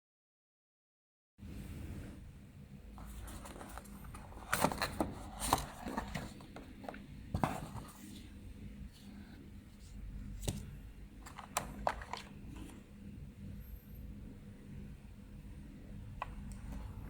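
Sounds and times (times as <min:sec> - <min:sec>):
low steady hum: 0:01.4 - 0:17.0.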